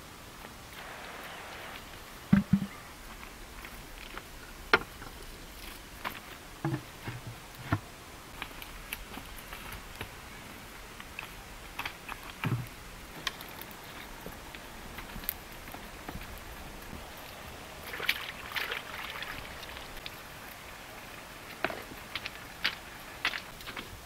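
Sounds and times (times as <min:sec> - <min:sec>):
wood fire crackling: 0:00.4 - 0:24.0.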